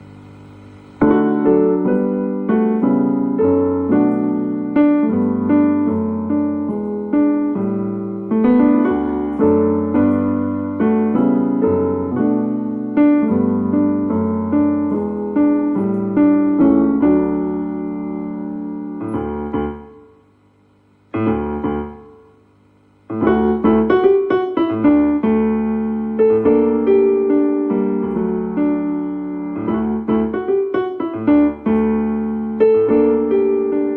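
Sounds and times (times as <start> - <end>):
keyboard playing piano chords: 0.0 - 20.5, 21.1 - 33.9.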